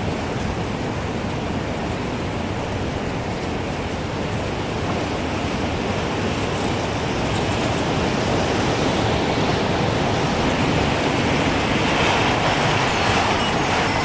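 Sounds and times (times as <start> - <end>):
rushing wind: 0.0 - 14.0.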